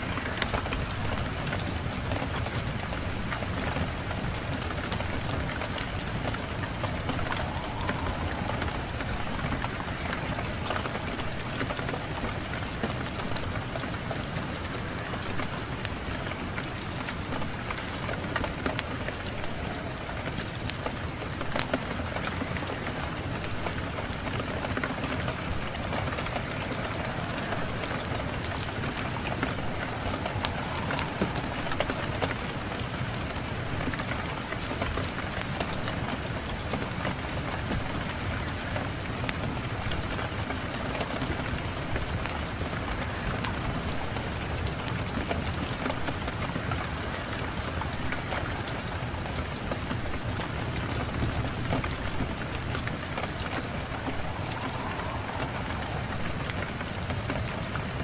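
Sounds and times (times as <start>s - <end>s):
steady wind: 0.0s - 58.0s
fire crackling and popping: 0.1s - 58.0s.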